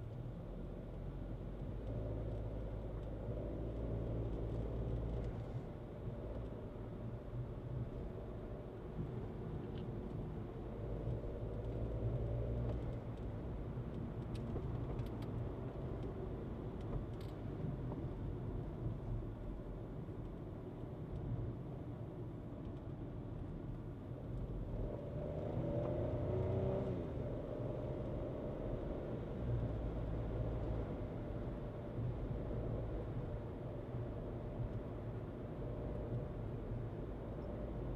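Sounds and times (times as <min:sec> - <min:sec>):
low road rumble: 0:00.0 - 0:37.9.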